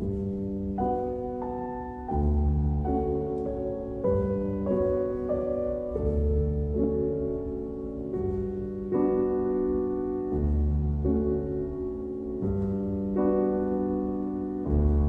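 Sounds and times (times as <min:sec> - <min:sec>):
gentle instrumental music: 0:00.0 - 0:15.0.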